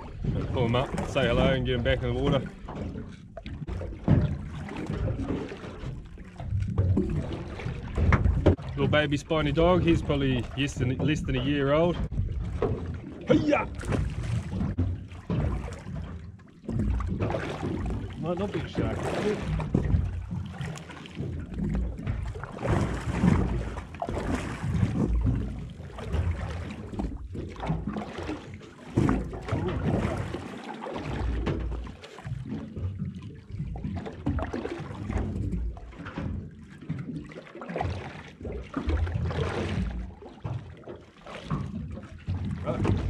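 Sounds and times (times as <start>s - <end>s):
water lapping against boat hull: 0.0s - 43.0s.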